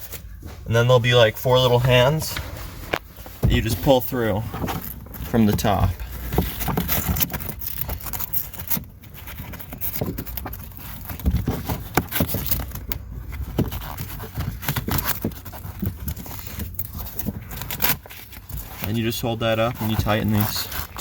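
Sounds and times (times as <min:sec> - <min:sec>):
fabric rustling and scraping: 0:00.0 - 0:21.0.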